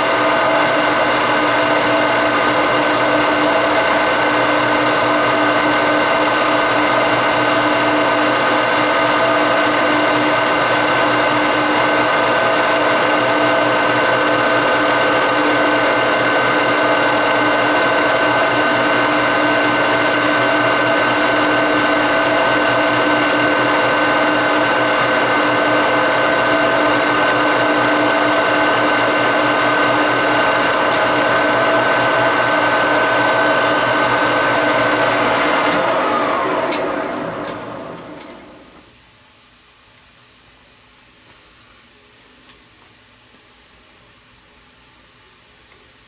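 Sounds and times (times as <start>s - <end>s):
metal lathe whining: 0.0s - 38.9s.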